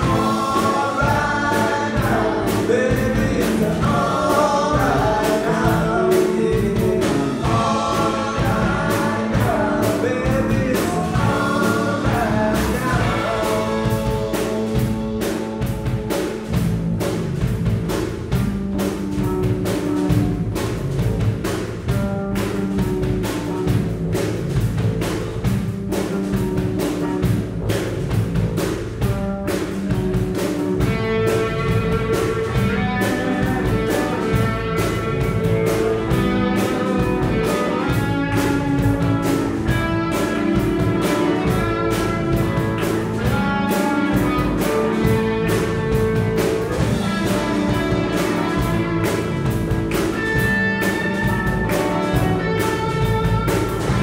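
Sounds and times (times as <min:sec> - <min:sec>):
bass guitar: 0:00.0 - 0:54.0
drum kit beat: 0:00.0 - 0:54.0
electric guitar: 0:00.0 - 0:54.0
high melody line: 0:00.0 - 0:54.0.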